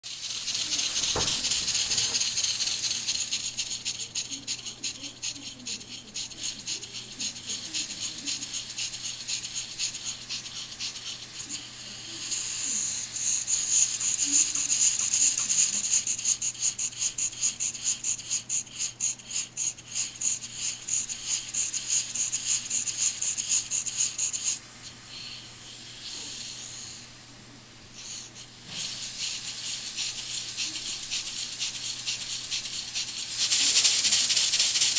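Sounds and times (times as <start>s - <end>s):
steam engine hissing chuff: 0.0s - 34.9s.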